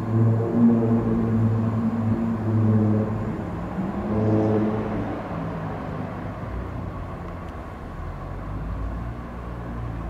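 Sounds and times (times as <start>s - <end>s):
diesel train engines droning: 0.0s - 10.0s.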